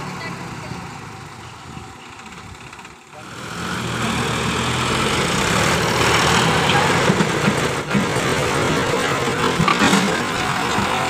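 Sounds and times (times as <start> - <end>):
tractor engines straining: 0.0 - 11.0.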